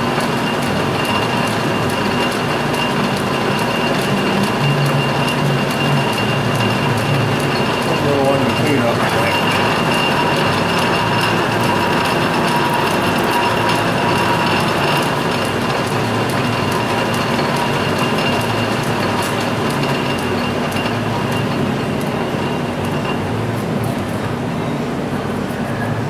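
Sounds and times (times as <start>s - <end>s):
metal lathe whirring and whining: 0.0s - 26.0s.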